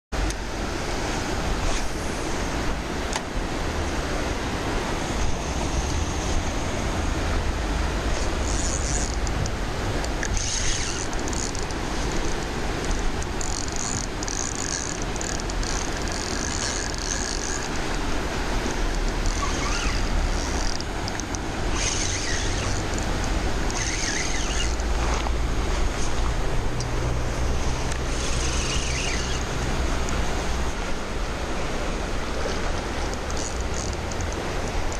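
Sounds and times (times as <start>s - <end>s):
river rushing: 0.2s - 34.9s.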